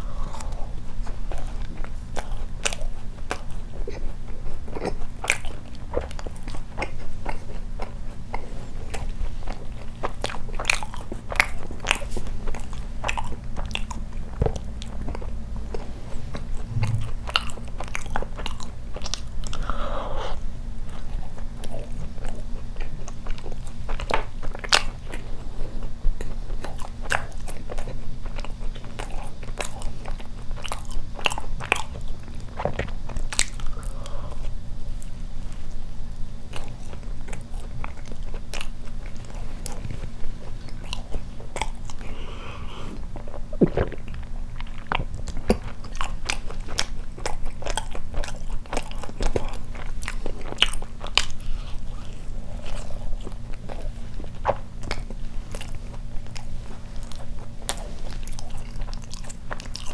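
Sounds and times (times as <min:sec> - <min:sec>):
biting and chewing: 0:00.0 - 0:59.9
steady low hum: 0:00.0 - 0:59.9.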